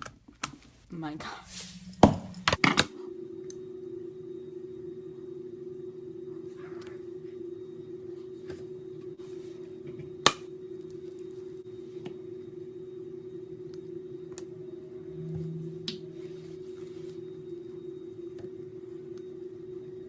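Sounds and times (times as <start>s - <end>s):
steady hum: 0.6s - 20.0s.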